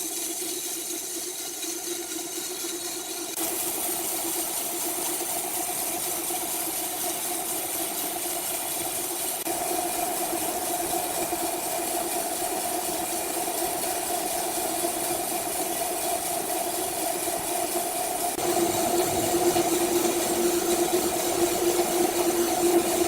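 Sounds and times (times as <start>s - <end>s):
sawmill machinery droning: 0.0s - 23.0s.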